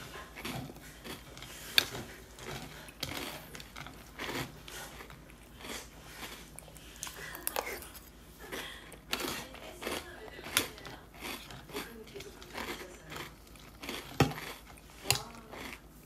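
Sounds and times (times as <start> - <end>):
crunchy cereal chewing: 0.0 - 16.0.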